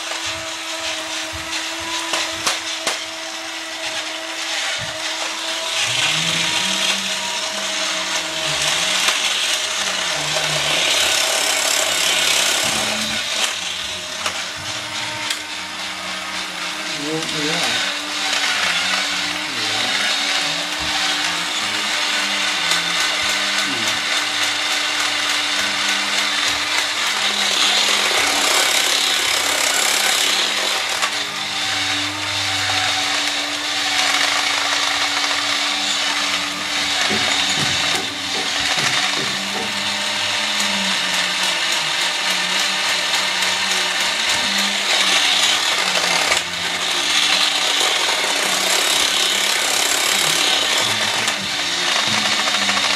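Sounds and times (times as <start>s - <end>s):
toy robot motor whirring: 0.0s - 52.9s.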